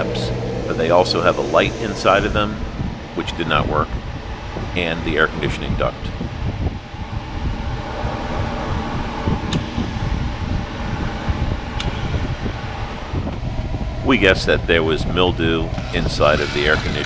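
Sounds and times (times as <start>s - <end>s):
machine hum and rumble: 0.0s - 17.0s.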